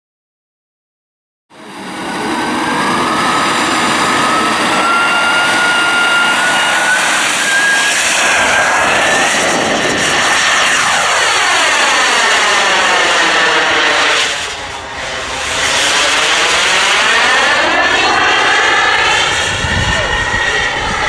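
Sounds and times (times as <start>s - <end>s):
jet turbine whining: 1.5s - 21.0s.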